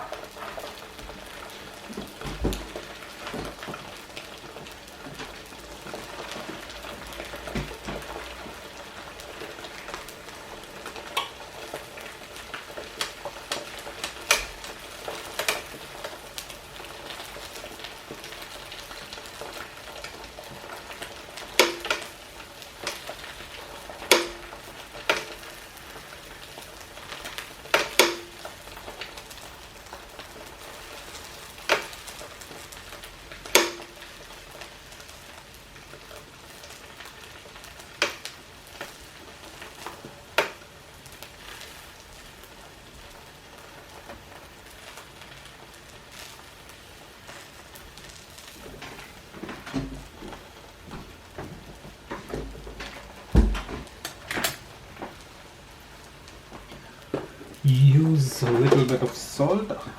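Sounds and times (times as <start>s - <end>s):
eggs sizzling in oil: 0.0s - 59.9s.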